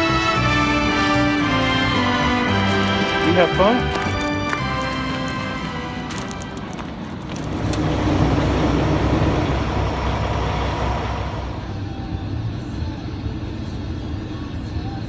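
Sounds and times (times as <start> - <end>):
vehicle engine and road noise: 0.0 - 12.6.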